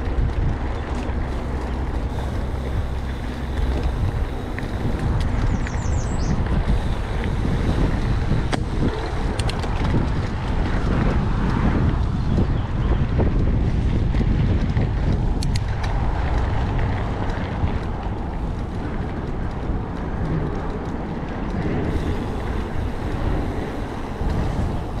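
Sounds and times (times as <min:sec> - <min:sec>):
bike rolling on dirt trail: 0:00.0 - 0:25.0
wind noise on microphone: 0:00.0 - 0:25.0.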